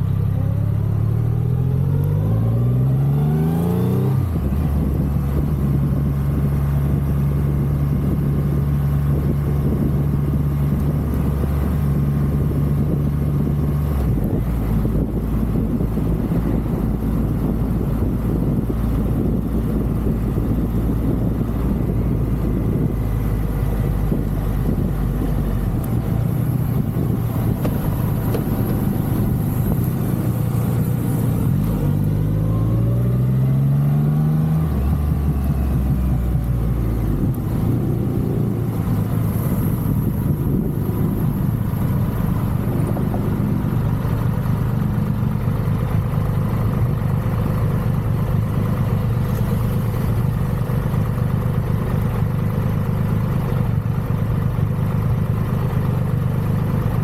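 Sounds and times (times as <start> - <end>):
motorcycle engine running: 2.8 - 33.5, 34.6 - 57.0.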